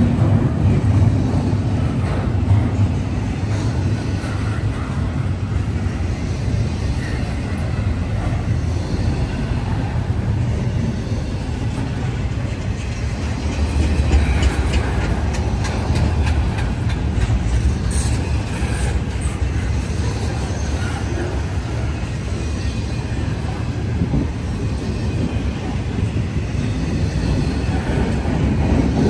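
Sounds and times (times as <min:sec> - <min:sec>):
freight train rumbling on rails: 0:00.0 - 0:29.0.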